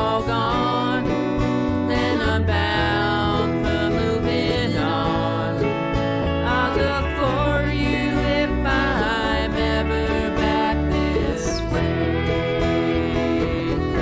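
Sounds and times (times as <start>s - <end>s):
bass line: 0.0s - 14.0s
person singing: 0.0s - 14.0s
strummed acoustic guitar: 0.0s - 14.0s.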